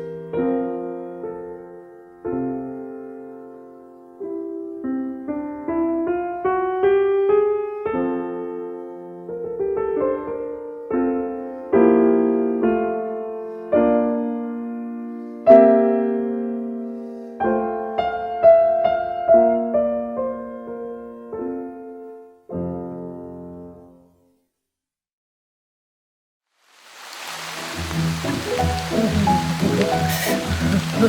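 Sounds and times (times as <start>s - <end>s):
gentle piano music: 0.0s - 24.2s, 27.2s - 31.0s.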